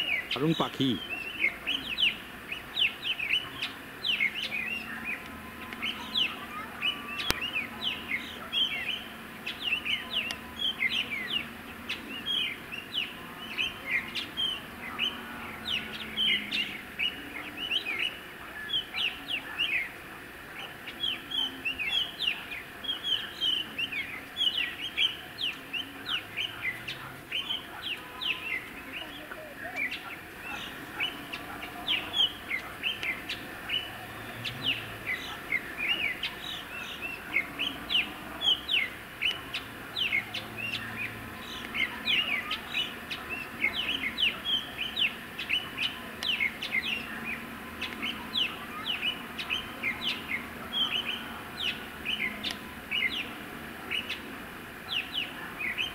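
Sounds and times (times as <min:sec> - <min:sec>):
flock of small birds chirping: 0:00.0 - 0:55.9.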